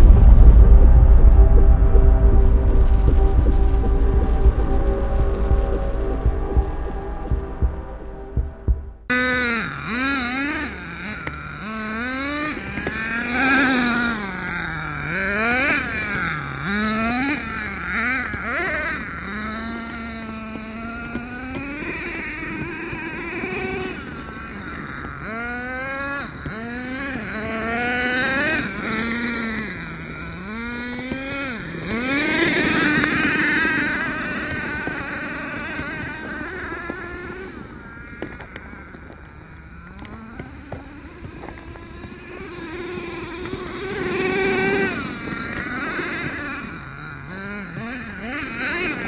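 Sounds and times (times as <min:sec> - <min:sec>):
rc truck nitro engine revving: 0:09.1 - 0:49.0.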